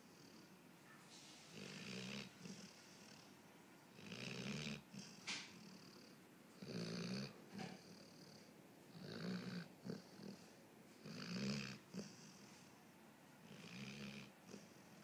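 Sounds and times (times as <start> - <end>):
dog snoring: 0.0 - 0.6, 1.4 - 12.7, 13.4 - 14.8.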